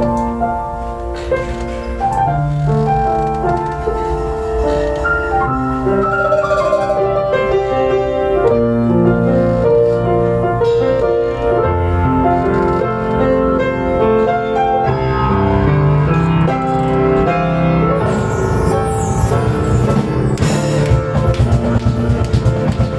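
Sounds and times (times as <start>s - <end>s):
live piano music: 0.0s - 22.9s.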